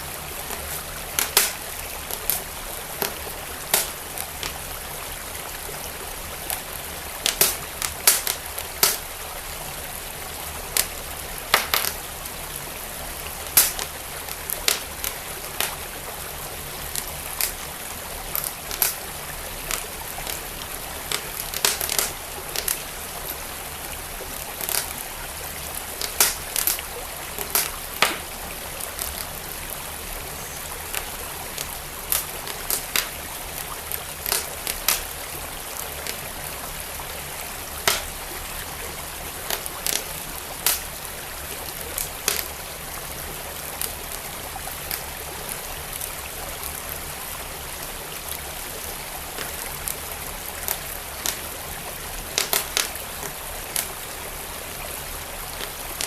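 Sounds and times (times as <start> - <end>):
fire crackling and popping: 0.0 - 42.6, 49.2 - 54.3
stream flowing: 0.0 - 56.0.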